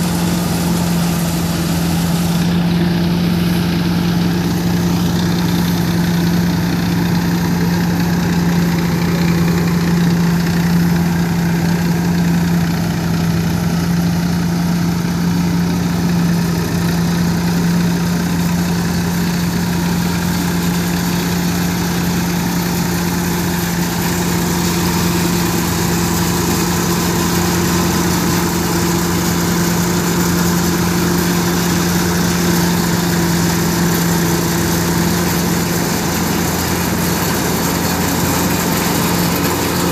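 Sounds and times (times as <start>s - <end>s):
threshing machine whirring: 0.0s - 39.9s
tractor diesel engine running: 0.0s - 39.9s.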